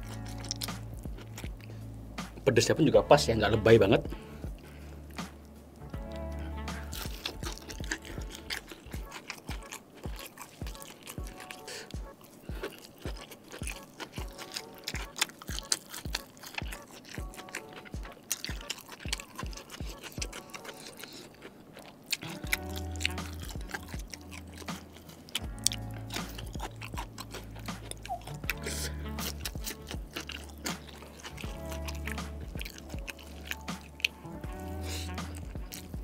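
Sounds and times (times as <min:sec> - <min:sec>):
crunchy chewing of fried chicken: 0:00.0 - 0:02.4, 0:04.2 - 0:36.0
background music with beat: 0:00.0 - 0:20.4, 0:22.2 - 0:36.0.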